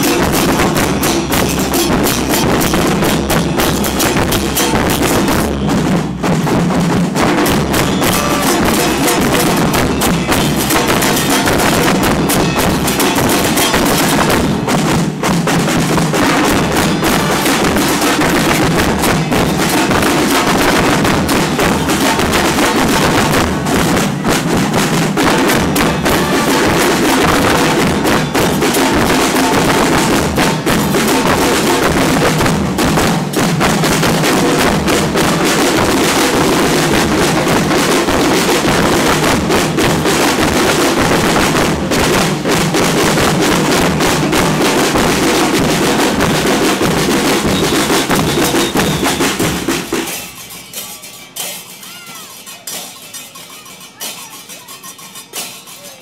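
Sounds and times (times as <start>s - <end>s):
drum group playing percussion: 0.0s - 56.0s.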